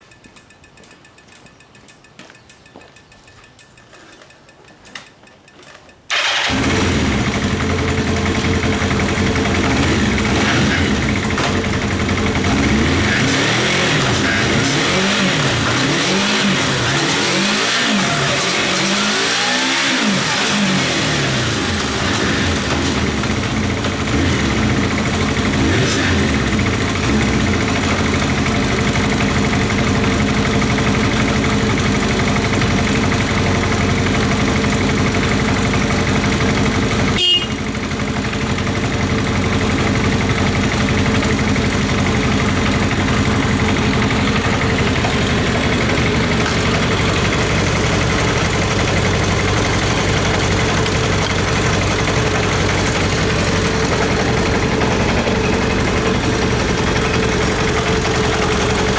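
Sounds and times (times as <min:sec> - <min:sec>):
motorcycle engine idling: 0:06.1 - 0:58.9.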